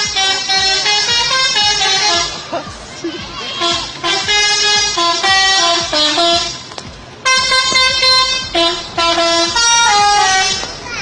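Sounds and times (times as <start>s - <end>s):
multi-trumpet air horn tune: 0.0s - 2.5s, 3.4s - 10.7s.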